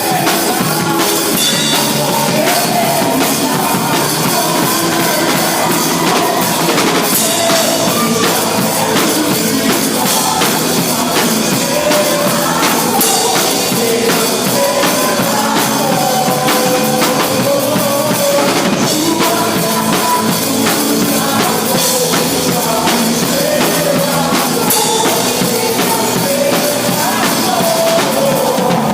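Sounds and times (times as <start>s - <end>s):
drum kit beat: 0.0s - 28.9s.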